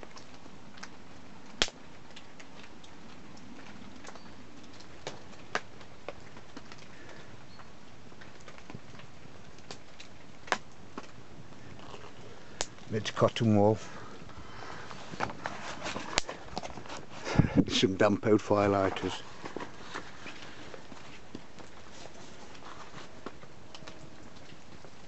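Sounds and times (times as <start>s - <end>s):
heavy rain hissing on tent: 0.0s - 25.0s
wood fire crackling and popping: 0.0s - 25.0s.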